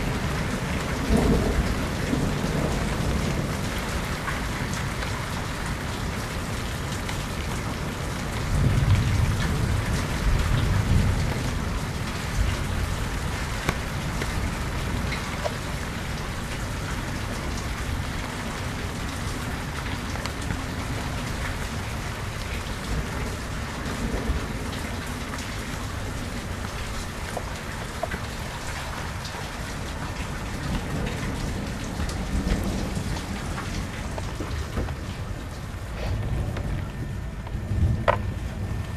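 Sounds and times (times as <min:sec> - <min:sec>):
low rumble of thunder: 0:00.0 - 0:38.9
rain falling: 0:00.0 - 0:38.9.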